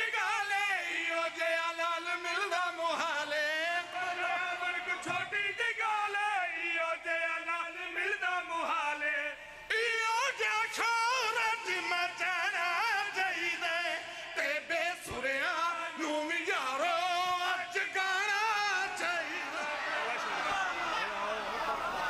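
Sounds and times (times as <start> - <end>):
men singing a devotional chant: 0.0 - 22.0.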